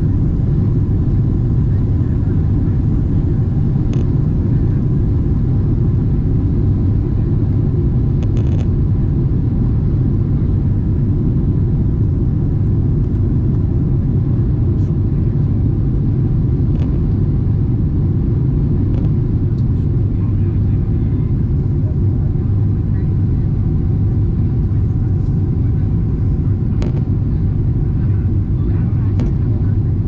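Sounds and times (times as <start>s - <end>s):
jet engine rumble in cabin: 0.0s - 30.0s.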